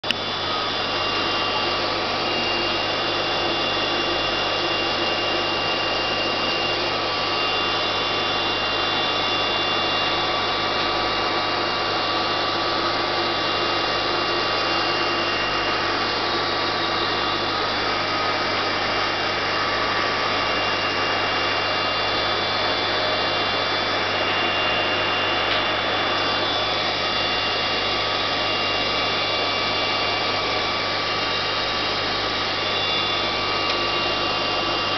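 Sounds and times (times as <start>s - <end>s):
aquarium equipment hum: 0.0s - 34.9s.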